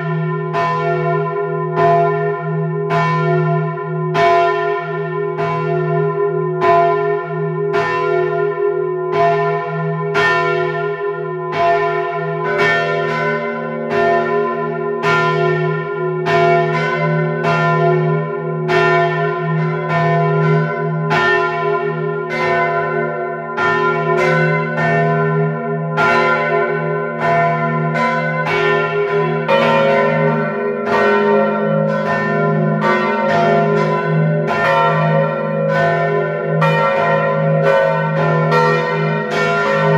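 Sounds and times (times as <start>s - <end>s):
large church bells ringing: 0.0s - 39.9s.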